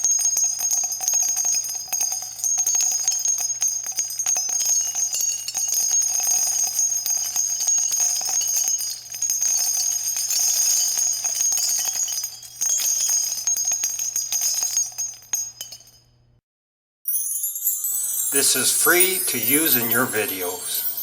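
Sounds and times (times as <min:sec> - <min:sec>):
tinkling bell-like chimes: 0:00.0 - 0:16.2, 0:17.1 - 0:21.0.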